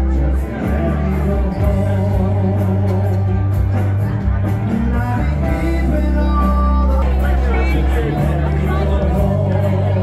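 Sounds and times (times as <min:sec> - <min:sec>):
bass line: 0:00.0 - 0:10.0
man singing pop song: 0:00.0 - 0:10.0.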